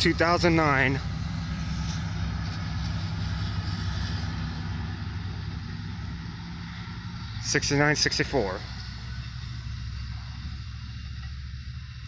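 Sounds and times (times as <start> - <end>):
passenger train rolling past: 0.0 - 12.0.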